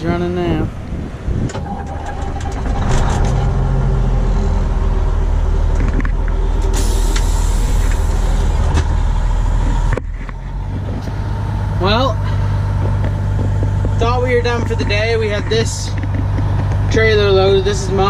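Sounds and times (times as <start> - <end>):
heavy engine droning: 0.0 - 18.0.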